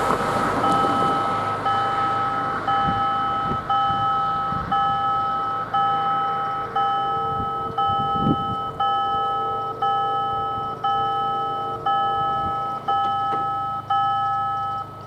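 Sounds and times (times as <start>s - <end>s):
level crossing warning bell: 0.6s - 15.0s.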